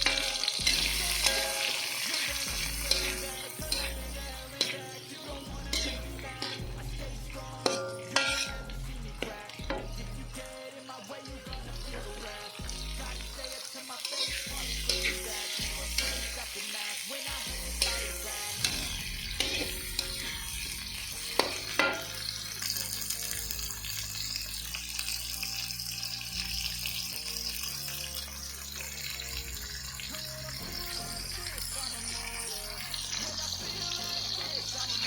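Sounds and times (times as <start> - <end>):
background music with bass beat: 0.0 - 35.0
food sizzling in a pan: 0.0 - 35.0.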